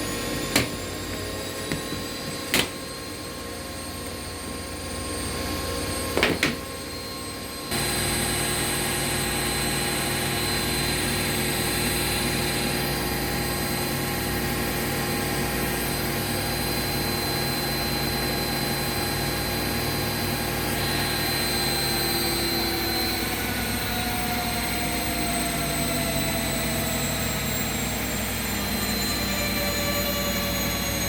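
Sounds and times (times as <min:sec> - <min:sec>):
high motor whine: 0:00.0 - 0:31.0
washing machines spinning: 0:00.0 - 0:31.0.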